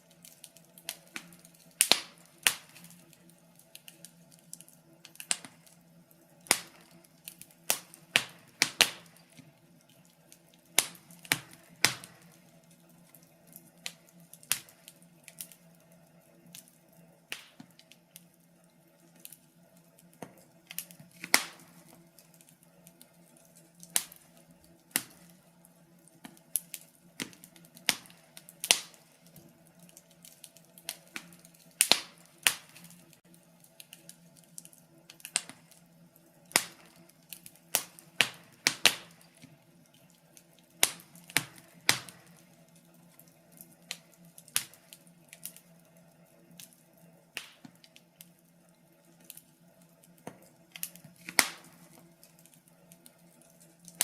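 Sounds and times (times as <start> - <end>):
faint steady hum: 0.0 - 54.0
wood fire crackling: 0.0 - 54.0.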